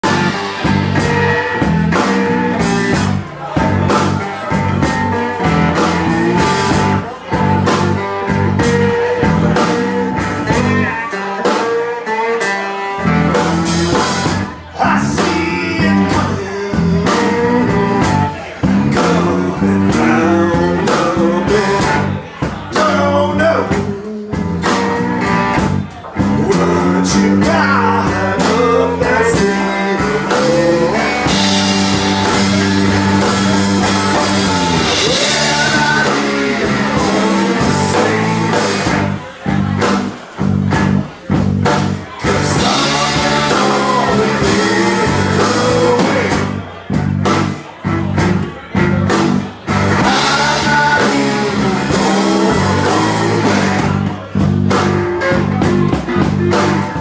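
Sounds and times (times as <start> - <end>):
bass guitar: 0.0 - 57.0
drum kit: 0.0 - 57.0
man singing: 0.0 - 57.0.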